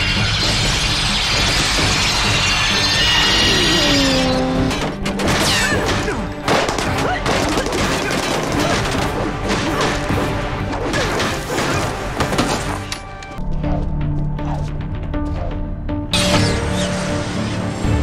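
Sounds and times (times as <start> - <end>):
dramatic action music: 0.0 - 18.0.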